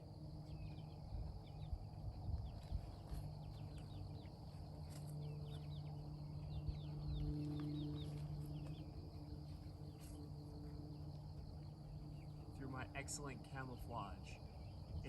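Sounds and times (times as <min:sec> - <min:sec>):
insect buzz: 0:00.0 - 0:13.2
small birds chirping: 0:00.0 - 0:15.0.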